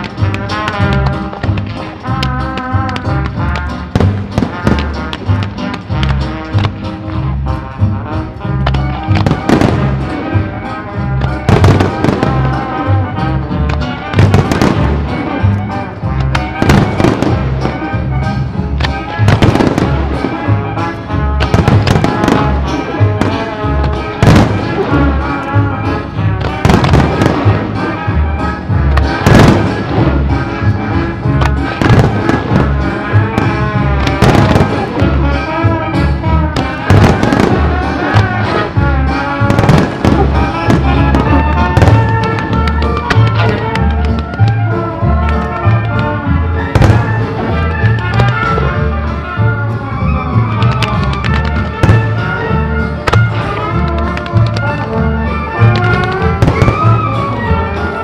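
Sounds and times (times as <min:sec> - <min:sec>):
fireworks bangs: 0:00.0 - 0:58.0
music with steady beat: 0:00.0 - 0:58.0.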